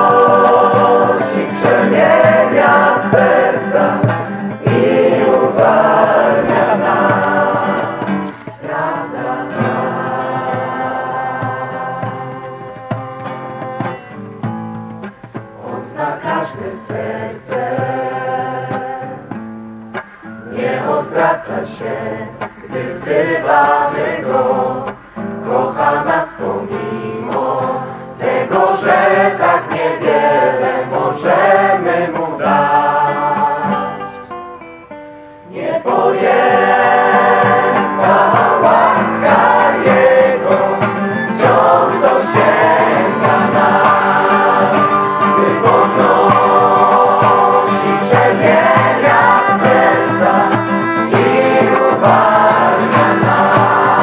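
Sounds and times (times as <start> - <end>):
group singing a hymn: 0.0 - 19.4, 20.0 - 34.4, 35.4 - 54.0.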